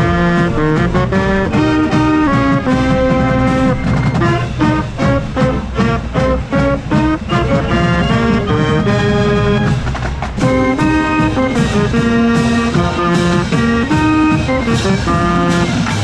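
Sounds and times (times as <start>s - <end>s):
drums: 0.0s - 16.0s
marching band brass chords: 0.0s - 16.0s.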